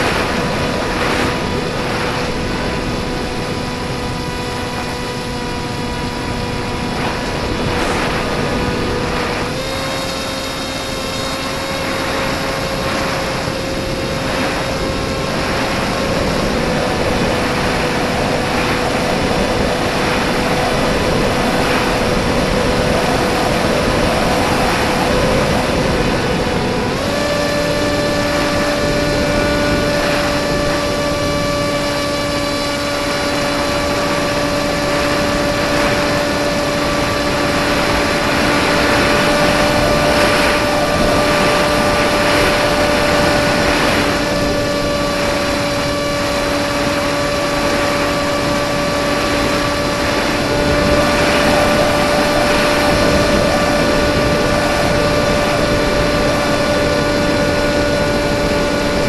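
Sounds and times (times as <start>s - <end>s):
model plane motor droning: 0.0s - 59.0s
wind rushing over microphone: 0.0s - 59.0s.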